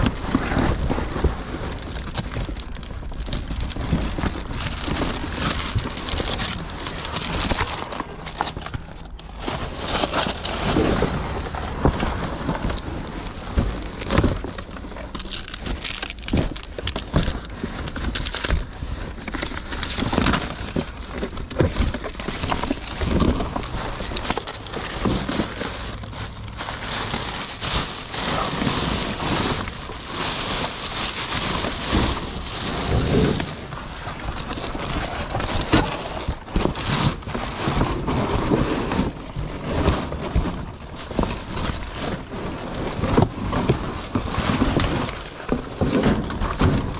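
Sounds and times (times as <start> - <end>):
plastic bags and cardboard rustling: 0.0 - 46.9.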